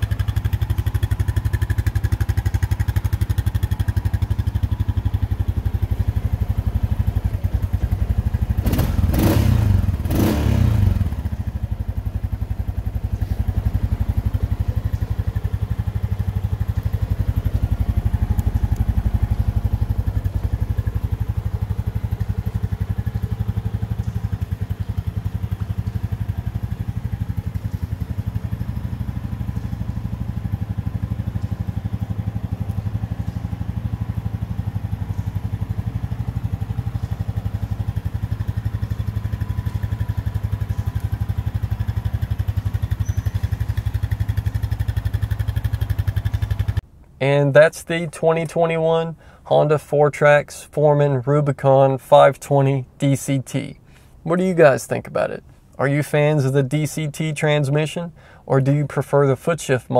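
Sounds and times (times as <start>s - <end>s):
atv engine idling and revving: 0.0s - 59.9s.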